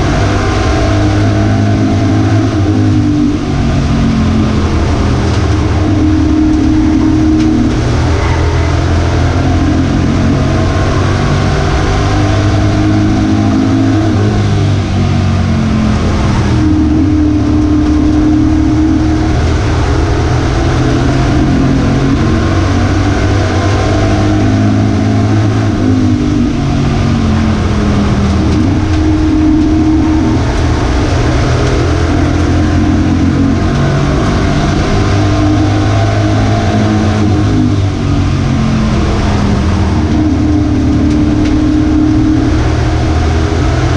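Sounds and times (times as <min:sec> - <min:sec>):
race truck engines: 0:00.0 - 0:43.9.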